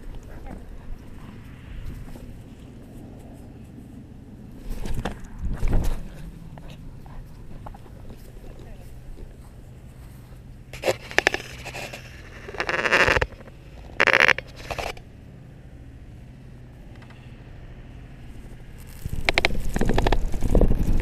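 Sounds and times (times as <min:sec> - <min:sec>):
camera rubbing on grass and fur: 0:00.0 - 0:15.0, 0:18.3 - 0:21.0.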